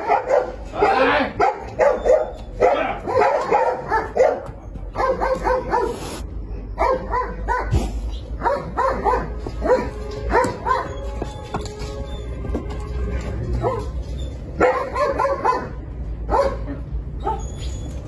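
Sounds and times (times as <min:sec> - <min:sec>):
dog barking and yipping: 0:00.0 - 0:06.0, 0:06.7 - 0:12.4, 0:13.5 - 0:18.0.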